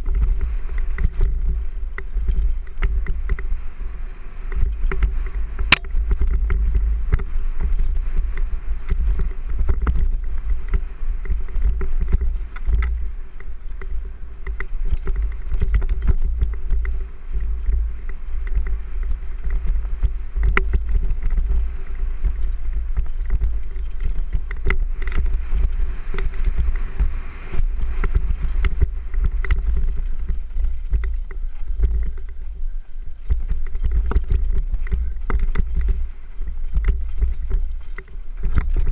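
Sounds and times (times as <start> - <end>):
bike frame rattling and clicking: 0.0 - 38.9
faint steady hum: 0.0 - 38.9
wind rumbling on microphone: 0.0 - 38.9.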